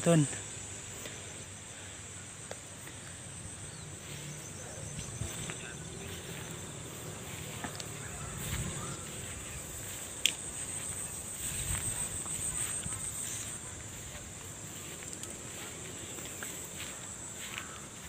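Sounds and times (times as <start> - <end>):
insects chirping trill: 0.0 - 18.0.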